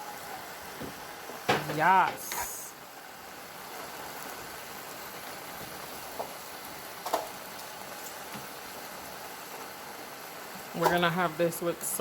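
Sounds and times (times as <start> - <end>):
stir fry sizzling in a pan: 0.0 - 12.0.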